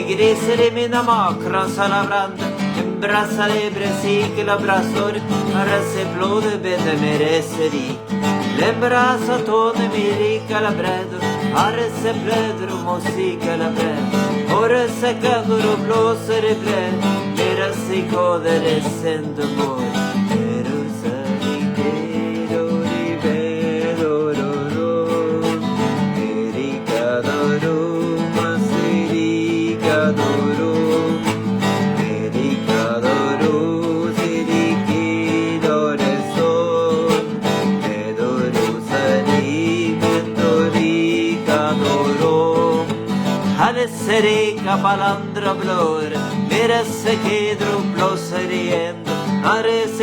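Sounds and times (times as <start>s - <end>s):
strummed acoustic guitar: 0.0s - 50.0s.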